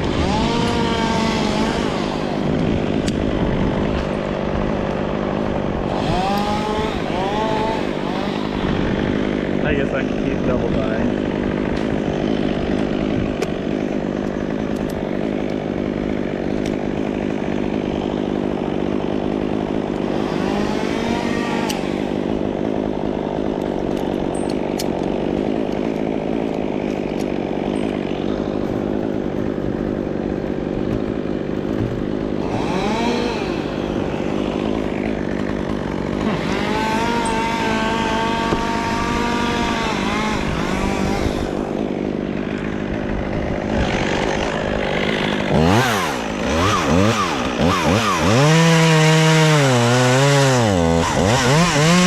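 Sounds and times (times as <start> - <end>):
chainsaw engine revving: 0.0 - 52.0.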